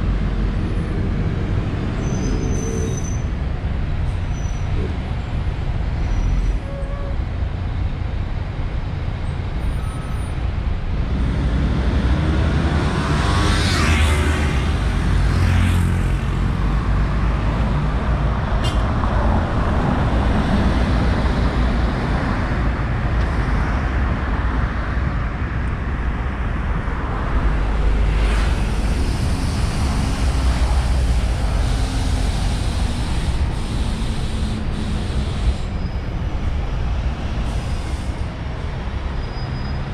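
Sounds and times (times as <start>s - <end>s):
vehicles passing close by: 0.0s - 6.6s, 10.3s - 39.9s
bus engines rumbling: 0.0s - 39.9s.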